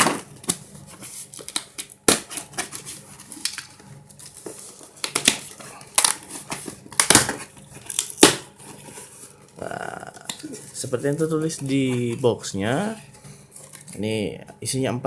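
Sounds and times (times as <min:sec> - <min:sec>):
packaging rustling and scraping: 0:00.0 - 0:14.1.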